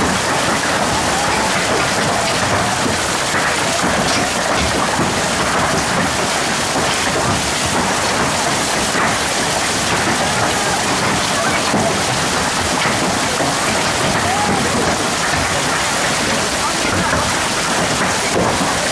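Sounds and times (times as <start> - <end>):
heavy hail and rain pelting: 0.0 - 18.9.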